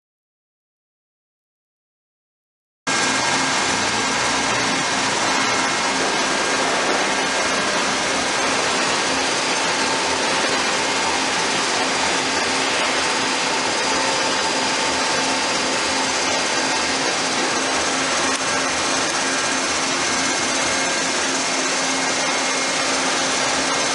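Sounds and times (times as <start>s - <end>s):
boring mill whirring: 2.9s - 23.9s.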